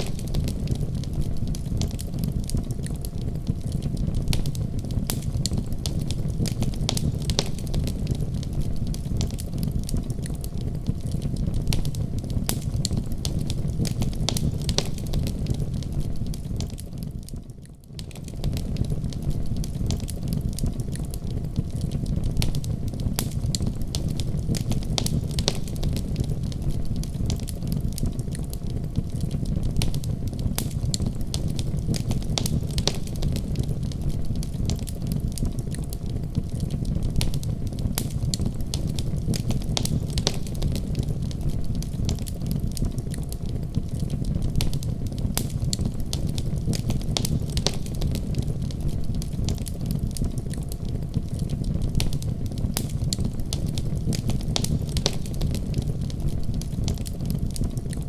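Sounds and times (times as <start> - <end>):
fire pops and snaps: 0.0 - 58.0
low rumble of fire: 0.0 - 58.0.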